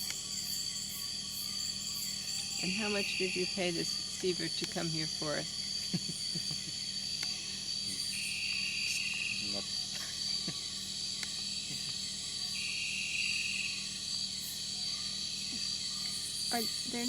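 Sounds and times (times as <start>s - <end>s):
high-pitched insect drone: 0.0s - 17.0s
lower insect trilling: 0.0s - 17.0s.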